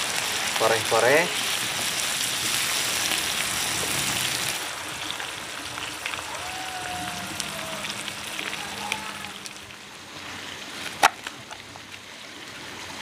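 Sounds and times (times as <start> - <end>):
food sizzling in oil: 0.0 - 12.9.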